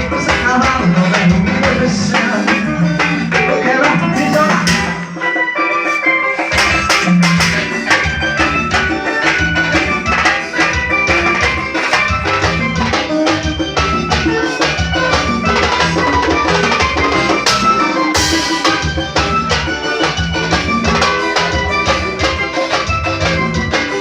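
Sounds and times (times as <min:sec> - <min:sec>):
band music: 0:00.0 - 0:24.0
bass: 0:00.0 - 0:24.0
drum kit beat: 0:00.0 - 0:24.0.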